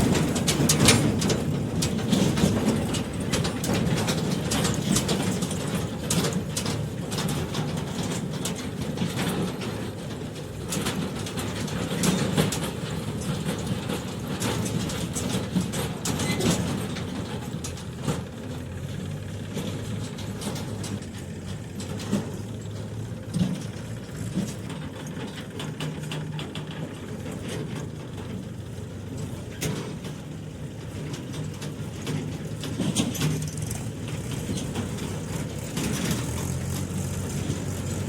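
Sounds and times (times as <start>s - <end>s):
diesel engine running: 0.0s - 38.0s
metallic clanks and knocks: 0.0s - 38.0s.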